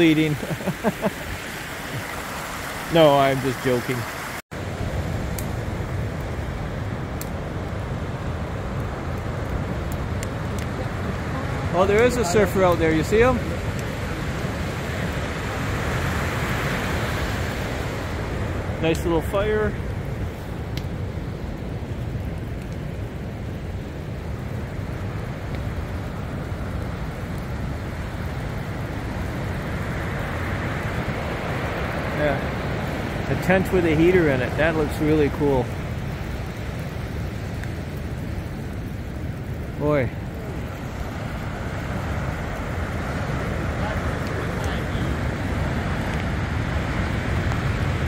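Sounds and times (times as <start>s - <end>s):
ocean surf breaking on beach: 0.0s - 48.0s
wind rumble on microphone: 4.5s - 48.0s.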